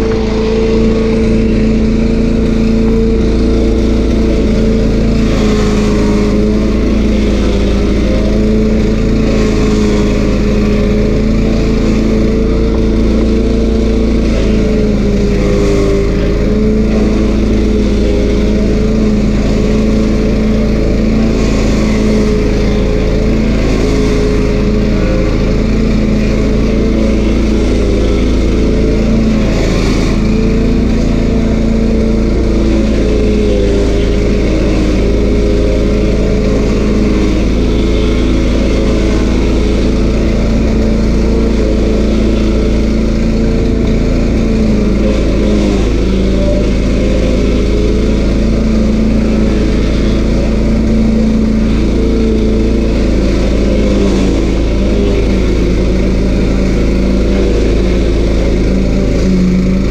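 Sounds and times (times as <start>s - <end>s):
stump grinder engine running: 0.0s - 59.9s.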